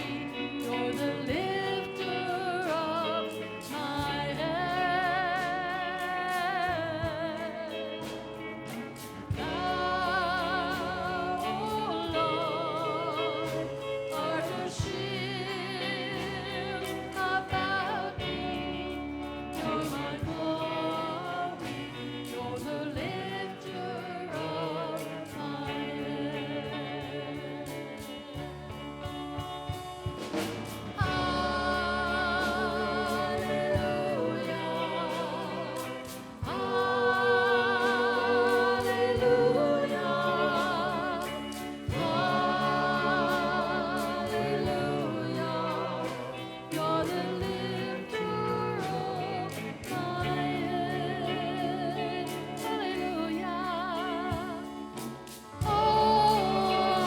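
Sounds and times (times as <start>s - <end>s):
instrumental accompaniment: 0.0s - 57.0s
voices singing worship song: 0.0s - 57.0s.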